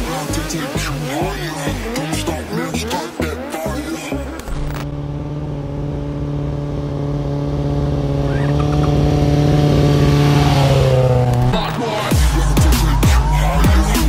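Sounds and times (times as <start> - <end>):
motorcycle engine at steady revs: 0.0 - 11.7.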